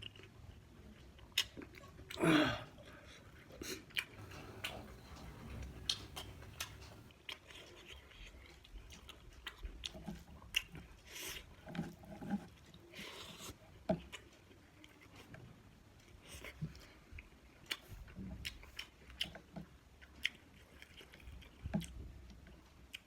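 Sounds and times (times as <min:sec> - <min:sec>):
person chewing food: 0:00.0 - 0:15.4, 0:16.0 - 0:23.0.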